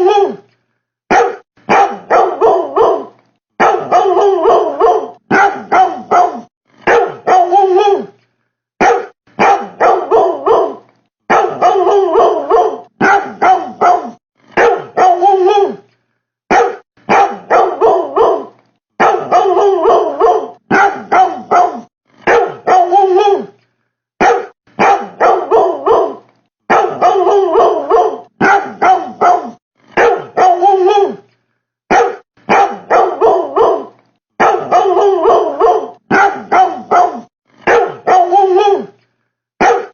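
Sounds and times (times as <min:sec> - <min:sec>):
dog barking: 0:00.0 - 0:00.4, 0:01.1 - 0:08.1, 0:08.8 - 0:15.8, 0:16.5 - 0:23.5, 0:24.2 - 0:31.2, 0:31.9 - 0:39.0, 0:39.6 - 0:39.9.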